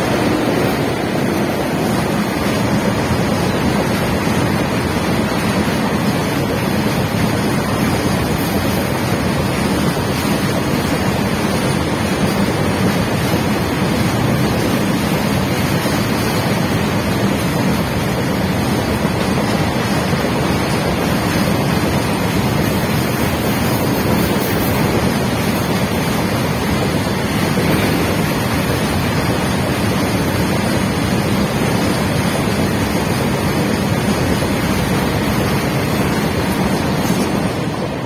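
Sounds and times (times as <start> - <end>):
freight train rolling on rails: 0.0 - 38.0
wind buffeting microphone: 0.0 - 38.0.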